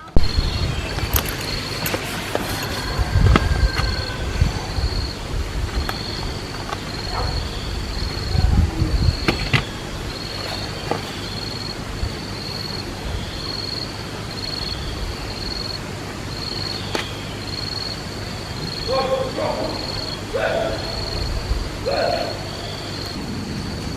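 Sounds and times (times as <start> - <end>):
background hiss: 0.0 - 23.9
insect chirping trills: 0.0 - 23.9.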